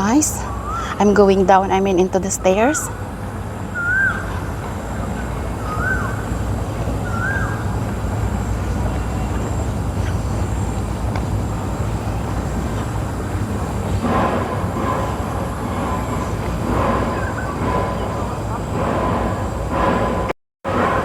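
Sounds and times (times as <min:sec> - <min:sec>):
bird chirps: 0:00.0 - 0:14.0, 0:14.6 - 0:18.8.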